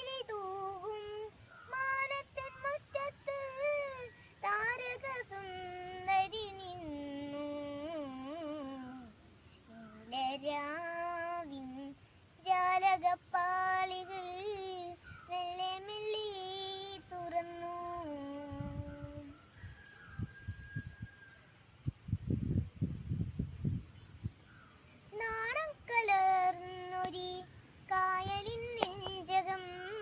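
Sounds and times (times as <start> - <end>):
girl singing: 0.0 - 19.3, 25.0 - 30.0.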